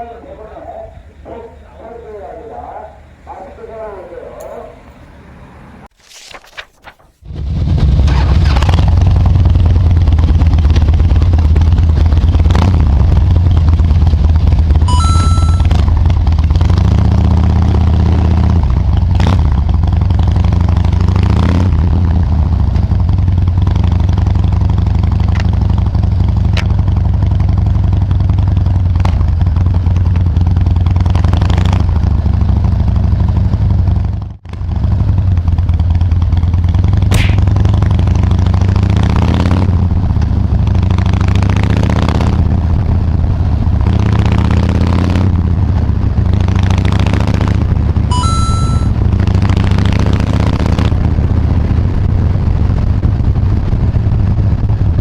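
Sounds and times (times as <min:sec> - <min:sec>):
motorcycle engine running: 0:07.3 - 0:55.0.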